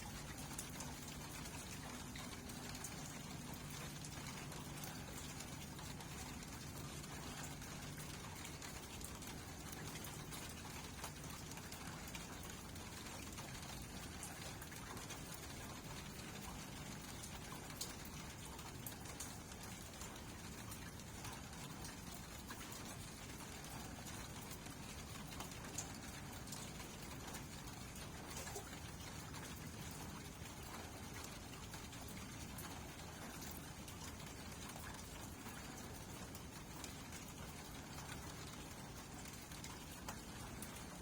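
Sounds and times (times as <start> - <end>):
raindrops pattering: 0.0 - 41.0
steady rain falling: 0.0 - 41.0.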